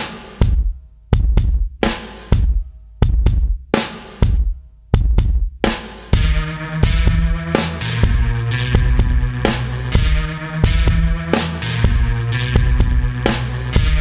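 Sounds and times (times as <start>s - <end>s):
drum-heavy music track: 0.0s - 14.0s.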